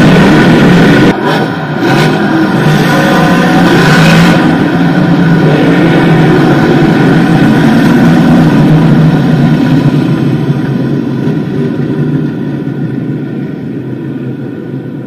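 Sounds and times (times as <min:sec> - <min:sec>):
race car engines roaring past: 0:00.0 - 0:15.0.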